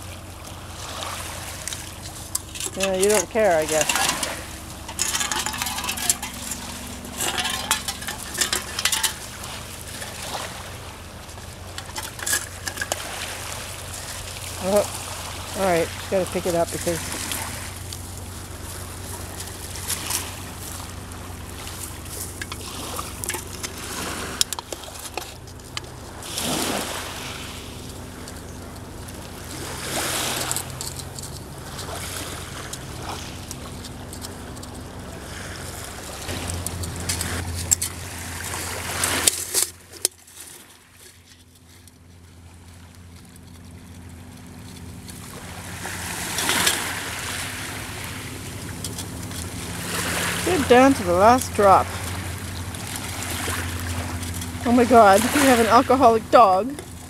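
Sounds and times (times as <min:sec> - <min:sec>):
waves washing onto gravel shore: 0:00.0 - 0:41.0, 0:42.4 - 0:57.0
boat engine hum: 0:00.0 - 0:57.0.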